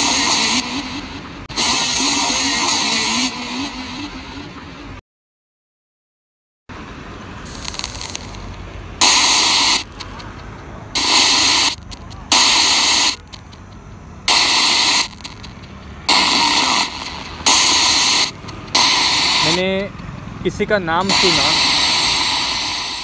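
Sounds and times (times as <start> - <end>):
radio static bursts: 0.0 - 5.0, 7.4 - 23.0.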